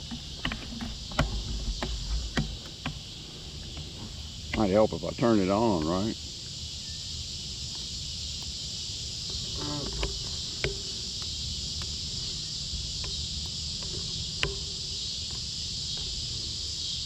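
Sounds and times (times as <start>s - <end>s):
crickets and insects buzzing: 0.0s - 17.0s.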